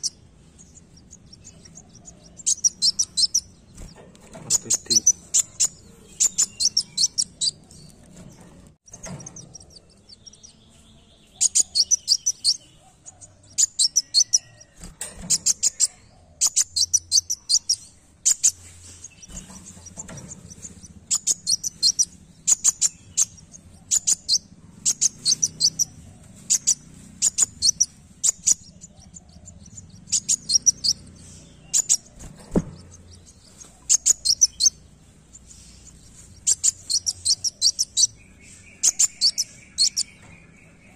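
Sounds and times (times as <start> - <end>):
bird singing rapid high chirps: 0.0 - 40.9.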